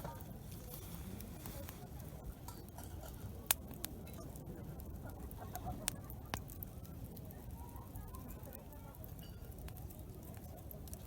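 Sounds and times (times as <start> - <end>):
campfire wood crackling: 0.0 - 11.0
low murmur: 0.0 - 11.0.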